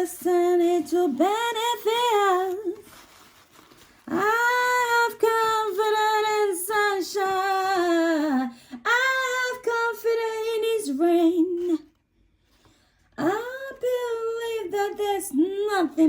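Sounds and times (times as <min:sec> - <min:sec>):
woman singing religious song: 0:00.0 - 0:03.2, 0:04.0 - 0:12.0, 0:13.2 - 0:16.0.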